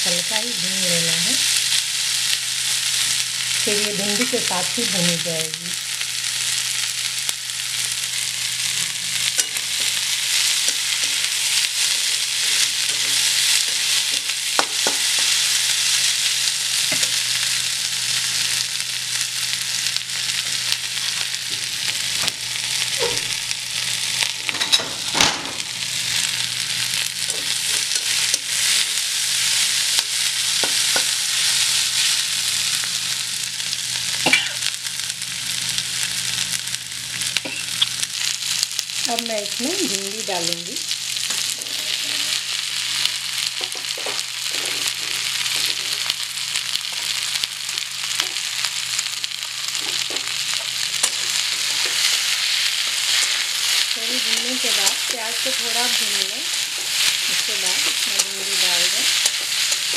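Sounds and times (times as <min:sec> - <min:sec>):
onions sizzling in oil: 0:00.0 - 0:59.9.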